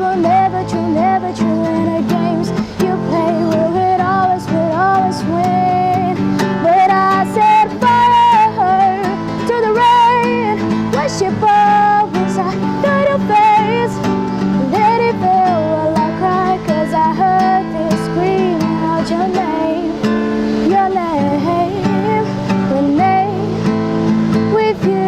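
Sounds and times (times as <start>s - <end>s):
strummed acoustic guitar: 0.0s - 25.0s
woman singing a ballad: 0.0s - 25.0s.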